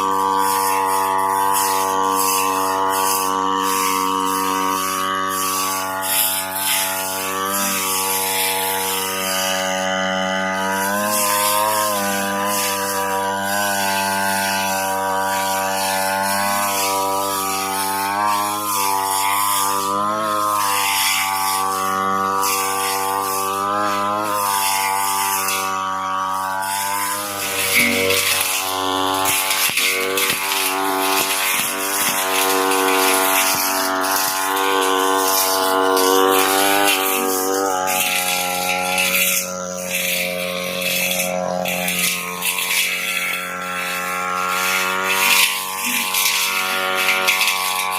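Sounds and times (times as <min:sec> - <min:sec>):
brush cutter cutting grass: 0:00.0 - 0:47.9.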